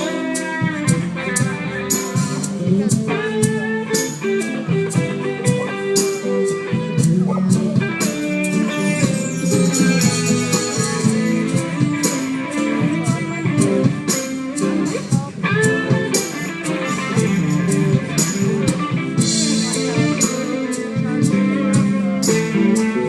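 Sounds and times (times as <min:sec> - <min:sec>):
guitar-led band music: 0:00.0 - 0:23.0.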